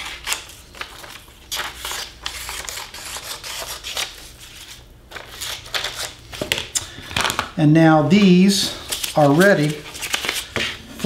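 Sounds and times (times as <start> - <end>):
paper rustling: 0.0 - 7.5, 8.2 - 11.0.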